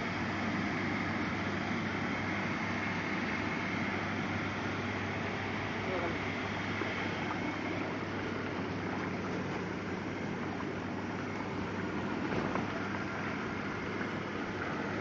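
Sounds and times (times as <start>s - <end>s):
bathtub pump motor humming: 0.0s - 15.0s
water churning through jets: 0.0s - 15.0s.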